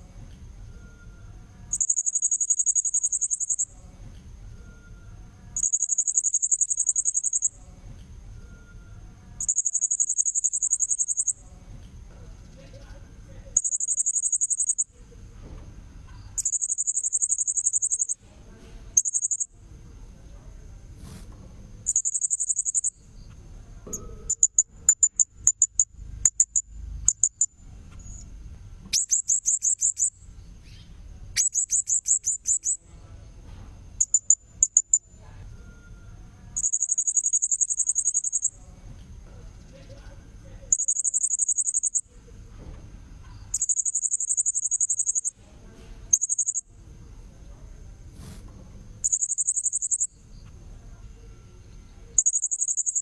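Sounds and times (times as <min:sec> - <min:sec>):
faint high whine: 0:00.0 - 0:53.0.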